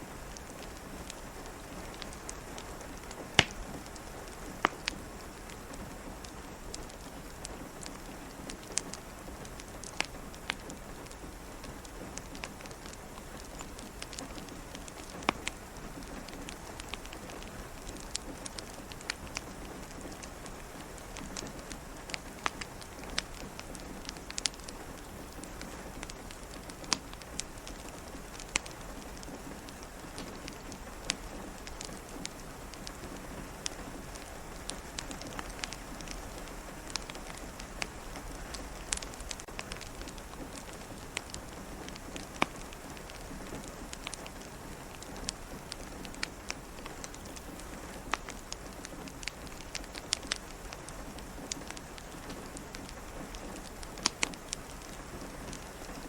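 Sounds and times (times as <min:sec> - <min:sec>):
fireplace crackling and popping: 0:00.0 - 0:56.0
rain pattering: 0:00.0 - 0:56.0.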